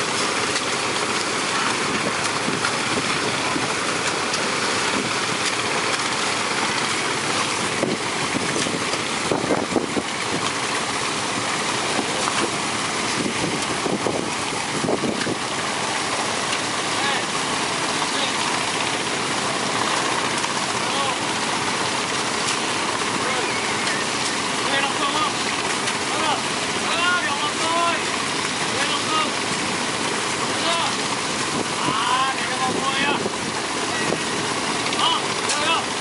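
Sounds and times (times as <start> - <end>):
hoe scraping wet sand: 0.0 - 33.0
water and sand rushing down sluice: 0.0 - 36.0
water pump engine running: 0.0 - 36.0.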